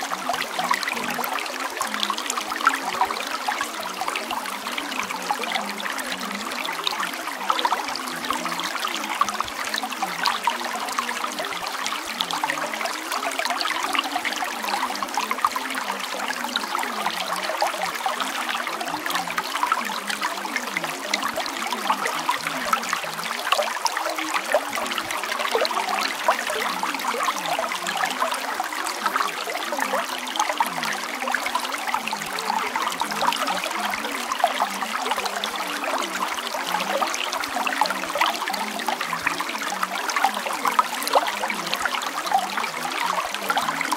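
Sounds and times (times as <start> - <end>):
trickling running water: 0.0 - 43.9.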